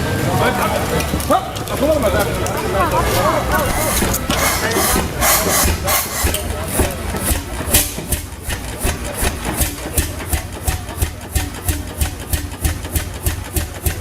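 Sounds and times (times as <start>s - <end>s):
old diesel engine running: 0.0s - 14.0s.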